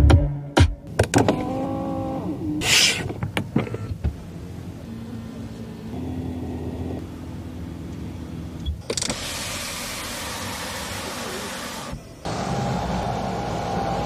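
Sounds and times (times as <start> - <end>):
seat motors humming: 0.9 - 14.0.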